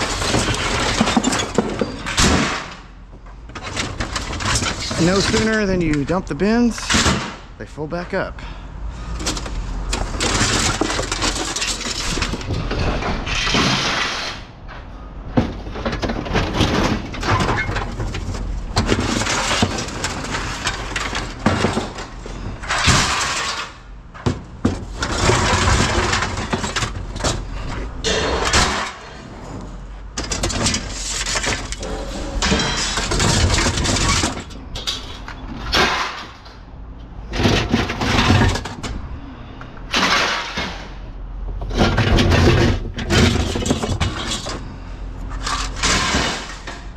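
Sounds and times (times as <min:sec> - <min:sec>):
scrap metal clattering: 0:00.0 - 0:07.5, 0:09.1 - 0:36.6, 0:37.2 - 0:39.0, 0:39.8 - 0:46.9.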